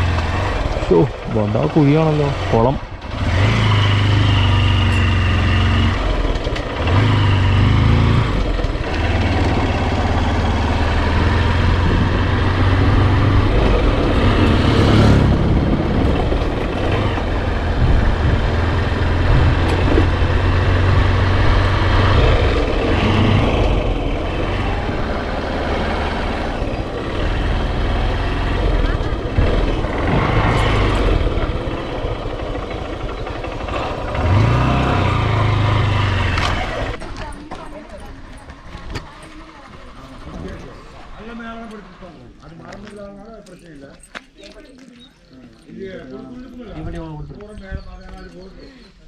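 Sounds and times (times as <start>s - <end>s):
motorcycle engine running: 0.0s - 42.8s
road and wind noise: 0.0s - 49.0s.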